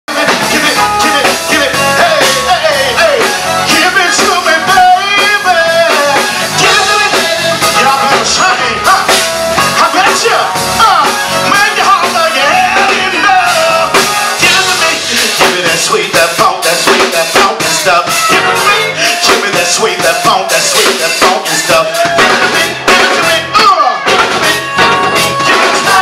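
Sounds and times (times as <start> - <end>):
live band playing upbeat groove: 0.1 - 26.0
vocalists singing into microphones: 0.1 - 26.0.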